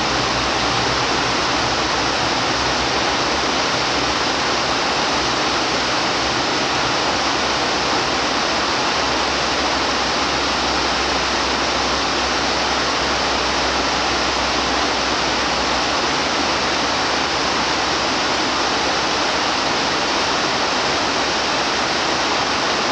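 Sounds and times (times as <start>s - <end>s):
waterfall rushing onto rocks: 0.0s - 22.9s.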